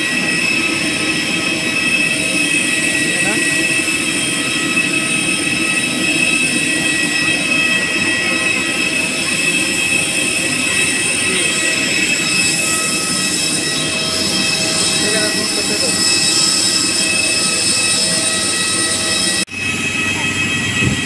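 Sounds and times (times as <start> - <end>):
jet turbine whine: 0.0 - 21.0.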